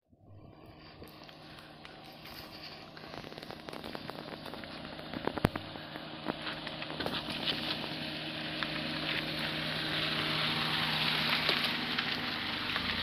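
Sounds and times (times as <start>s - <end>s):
small car engine running: 0.4s - 13.0s
tyres crunching over gravel: 0.7s - 13.0s.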